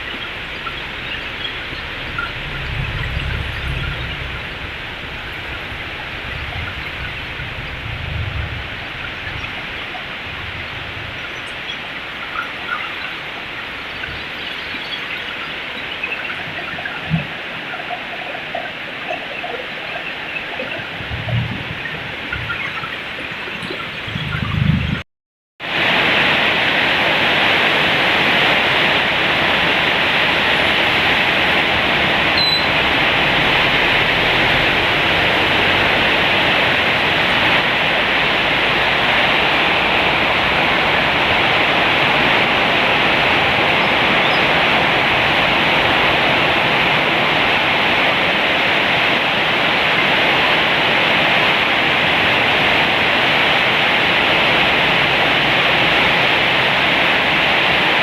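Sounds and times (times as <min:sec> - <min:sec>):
heavy rain downpour: 0:00.0 - 0:25.0, 0:25.6 - 0:58.0.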